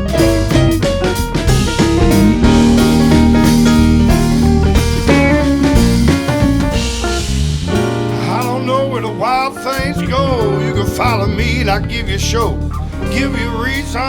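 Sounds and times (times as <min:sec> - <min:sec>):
drum kit: 0:00.0 - 0:11.3
bass: 0:00.0 - 0:14.0
guitar melody with bending notes: 0:00.0 - 0:14.0.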